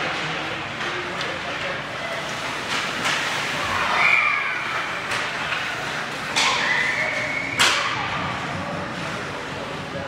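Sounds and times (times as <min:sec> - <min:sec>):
hockey sticks and skates on ice: 0:00.0 - 0:10.0.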